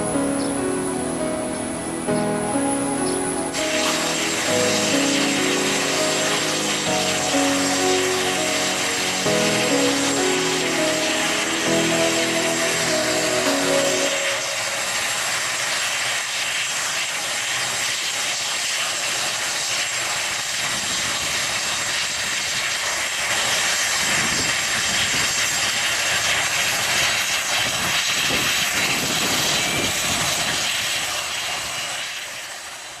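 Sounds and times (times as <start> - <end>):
jet engines running: 0.0 - 33.0.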